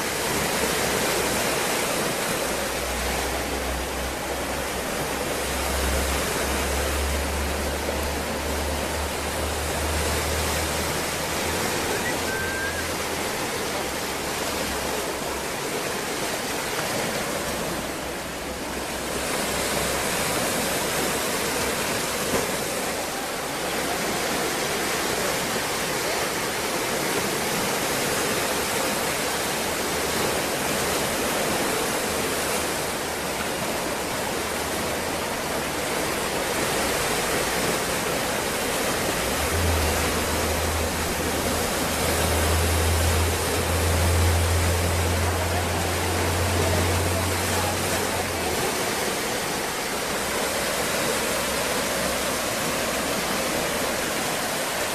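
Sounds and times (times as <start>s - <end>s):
ocean waves washing: 0.0s - 54.9s.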